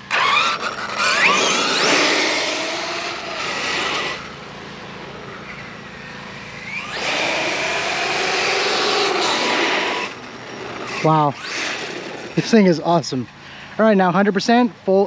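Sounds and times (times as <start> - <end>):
electric rc truck motor whine: 0.0 - 12.6.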